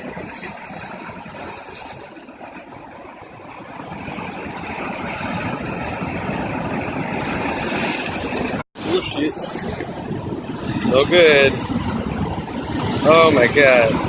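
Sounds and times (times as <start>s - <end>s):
waves breaking over rocks: 0.0s - 14.0s.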